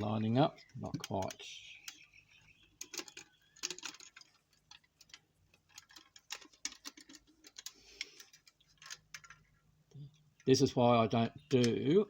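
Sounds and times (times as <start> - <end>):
model car parts clicking: 0.2 - 10.6, 11.4 - 12.0.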